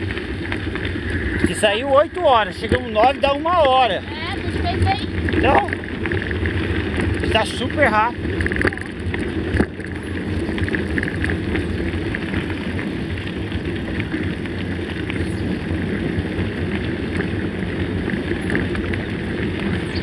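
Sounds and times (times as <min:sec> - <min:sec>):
bike frame rattling: 0:00.0 - 0:20.0
bike tyres rumbling on gravel: 0:00.0 - 0:20.0.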